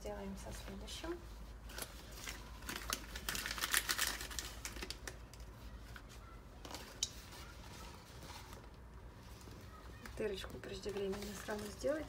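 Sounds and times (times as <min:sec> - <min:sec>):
clicks and rustles of handling: 0:01.4 - 0:12.0.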